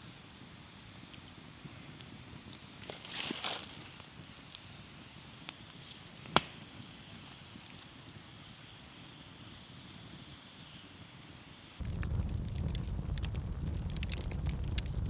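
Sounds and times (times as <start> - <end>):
campfire crackling: 0.4 - 9.9, 11.8 - 15.0.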